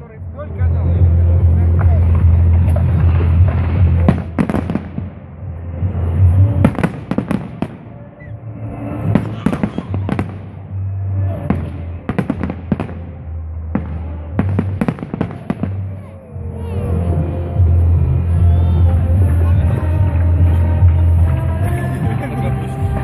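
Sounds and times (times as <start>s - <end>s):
fireworks bursting: 0.7s - 23.0s.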